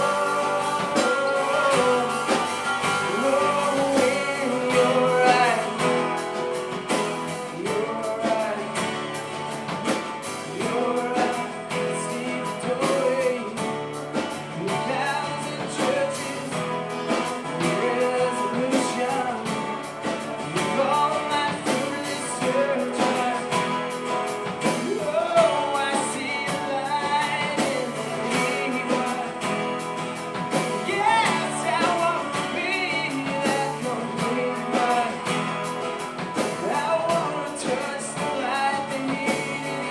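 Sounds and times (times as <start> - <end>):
acoustic guitars strummed: 0.0 - 39.9
drums keeping a steady beat: 0.0 - 39.9
men singing into microphones: 0.0 - 39.9.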